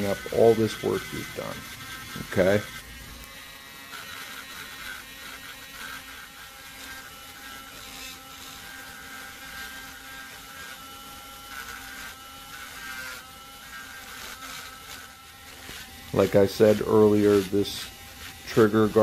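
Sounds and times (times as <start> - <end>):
rotary tool motor whine: 0.0 - 19.0.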